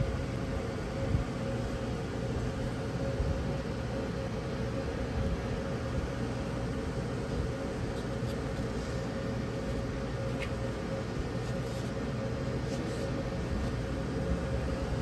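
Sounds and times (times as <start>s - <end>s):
faint constant whine: 0.0s - 15.0s
low mechanical hum: 0.0s - 15.0s.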